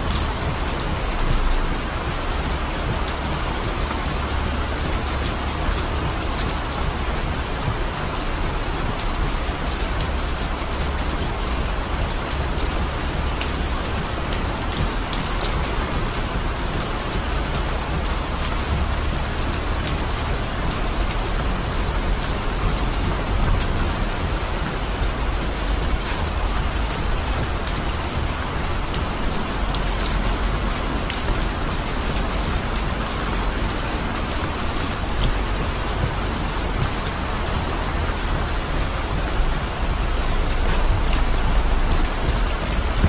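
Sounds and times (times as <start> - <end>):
heavy rain on car roof: 0.0 - 43.0.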